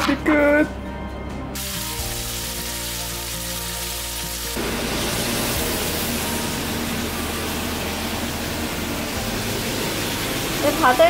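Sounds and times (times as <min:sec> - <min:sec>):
soft background music: 0:00.0 - 0:11.0
steaks sizzling in a frying pan: 0:01.6 - 0:11.0.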